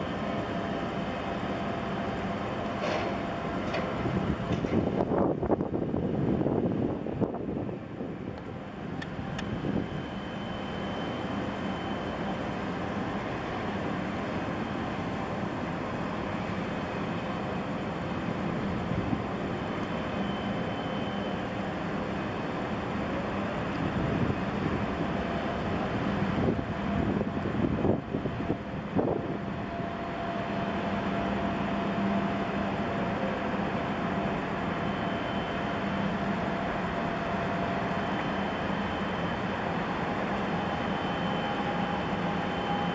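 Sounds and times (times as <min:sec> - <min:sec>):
ship engines droning: 0:00.0 - 0:42.9
faint whine: 0:05.0 - 0:42.9.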